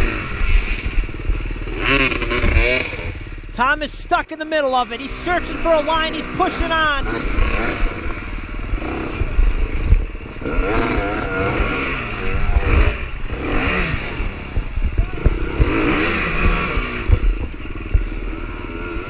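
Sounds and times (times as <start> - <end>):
dirt bike engines revving: 0.2 - 17.0.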